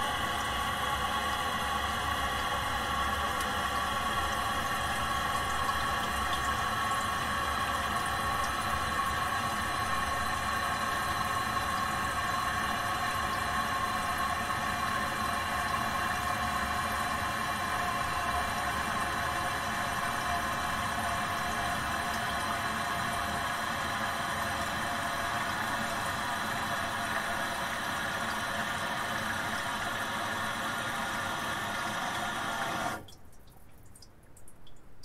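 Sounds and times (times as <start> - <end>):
toilet cistern refilling: 0.0 - 34.1.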